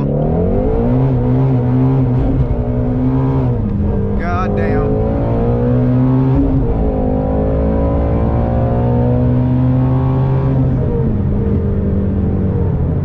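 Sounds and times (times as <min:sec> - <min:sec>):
loud car engine running: 0:00.0 - 0:13.0.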